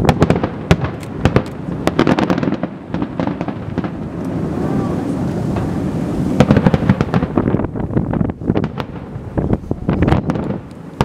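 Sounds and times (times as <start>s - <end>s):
firework bangs and crackles: 0.0s - 11.0s.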